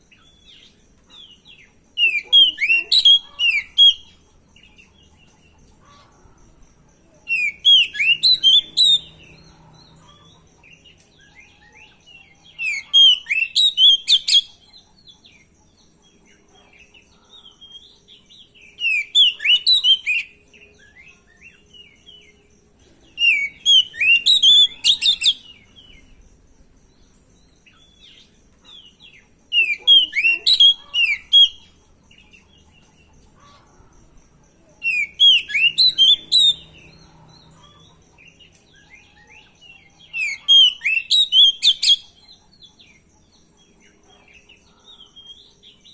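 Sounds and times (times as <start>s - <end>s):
magpie-robin singing: 0.0s - 6.1s, 7.1s - 26.2s, 27.6s - 33.6s, 34.6s - 45.9s.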